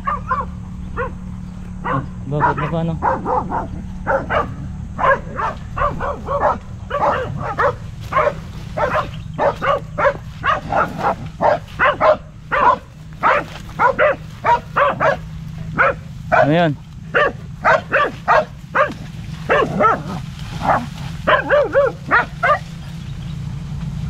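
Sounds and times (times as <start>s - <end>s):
dogs barking rapidly: 0.0s - 23.0s.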